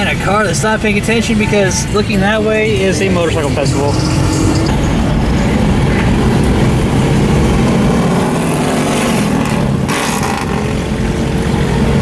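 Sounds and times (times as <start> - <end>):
car road noise: 0.0 - 12.0
motorcycle engines rumbling: 0.0 - 12.0.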